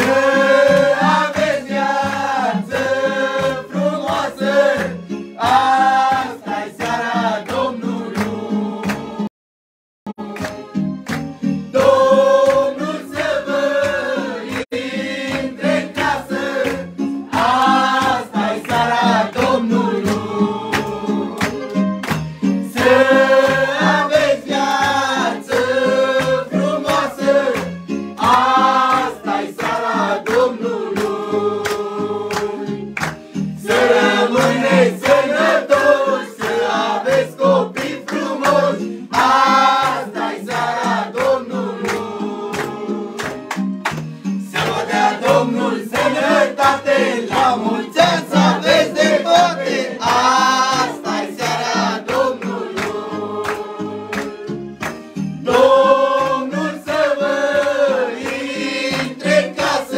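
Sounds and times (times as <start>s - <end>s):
group singing in unison: 0.0s - 9.3s, 10.2s - 10.9s, 11.7s - 43.6s, 44.4s - 59.9s
hands clapping in time: 0.0s - 9.3s, 10.2s - 59.9s.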